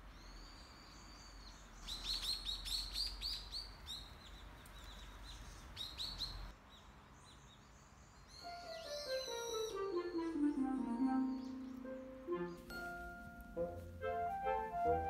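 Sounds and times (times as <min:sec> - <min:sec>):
small birds chirping: 0:00.0 - 0:14.0
low outdoor hiss: 0:00.0 - 0:15.0.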